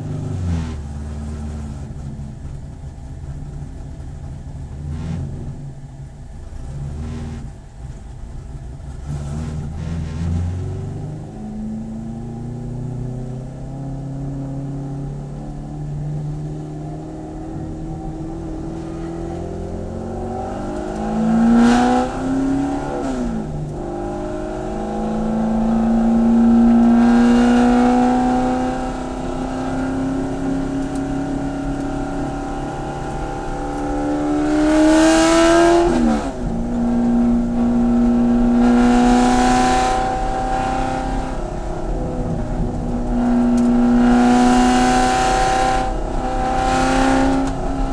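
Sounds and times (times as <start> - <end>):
racecar engine at full throttle: 0.0 - 47.9.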